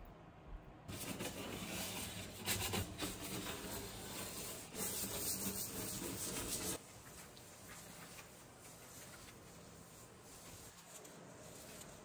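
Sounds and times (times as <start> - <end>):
brush scrubbing a cooktop: 0.9 - 12.0.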